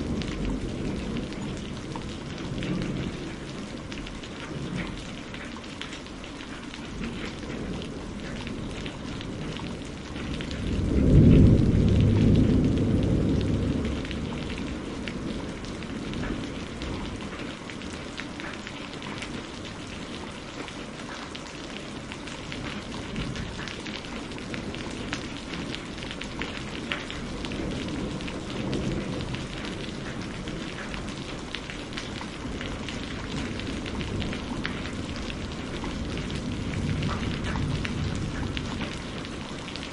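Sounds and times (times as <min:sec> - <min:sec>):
thunder rolling: 0:00.0 - 0:05.3, 0:07.0 - 0:17.4, 0:22.6 - 0:39.9
rain pattering: 0:00.0 - 0:39.9.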